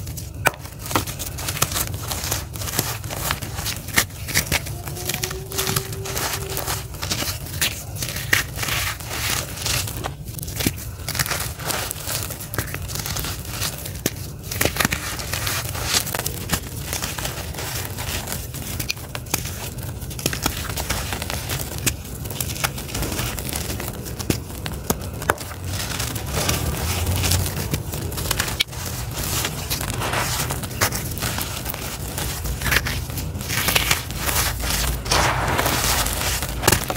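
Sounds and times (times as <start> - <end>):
charcoal lumps snapping: 0.0 - 36.9
hands crushing charcoal: 0.0 - 36.9.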